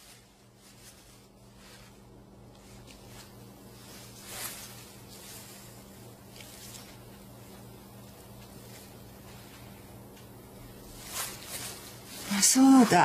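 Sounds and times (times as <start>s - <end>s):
fabric rustling: 0.0s - 13.0s
faint steady hum: 0.0s - 13.0s
thread swishing through cloth: 0.0s - 13.0s.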